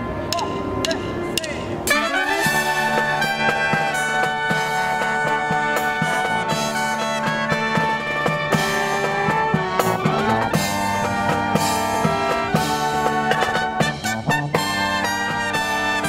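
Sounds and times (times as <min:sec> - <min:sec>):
brass horns playing tune: 0:00.0 - 0:16.0
drum kit beat: 0:00.3 - 0:16.0.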